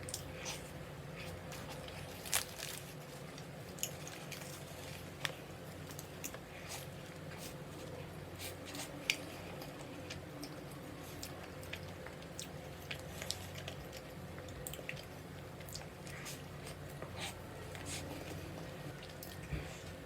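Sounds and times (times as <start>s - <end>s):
faint steady hum: 0.0s - 20.0s
person chewing food: 0.0s - 20.0s.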